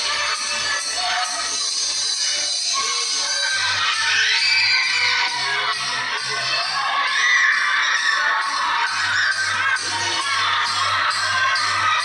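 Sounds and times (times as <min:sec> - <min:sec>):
music with steady beat: 0:00.0 - 0:07.0, 0:07.6 - 0:12.0.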